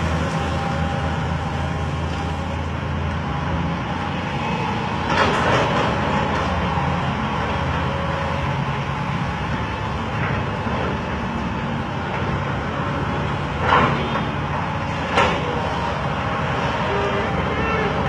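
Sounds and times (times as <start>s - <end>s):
diesel excavator engine running: 0.0s - 18.0s.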